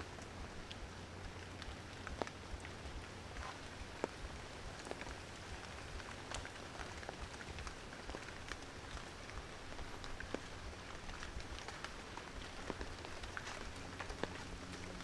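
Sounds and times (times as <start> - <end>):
rain through tree canopy: 0.0 - 15.0
raindrops ticking: 0.0 - 15.0.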